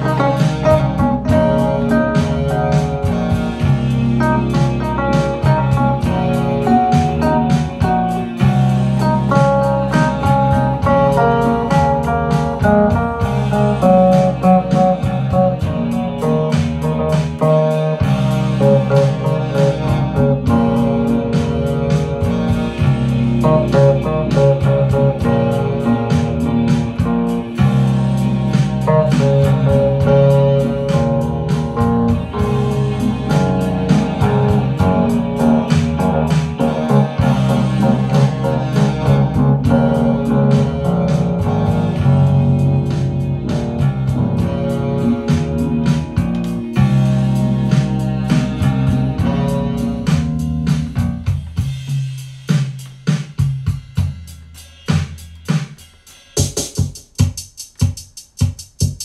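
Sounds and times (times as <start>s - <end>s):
plucked guitar-like melody: 0.0s - 50.1s
steady bass line: 0.0s - 59.0s.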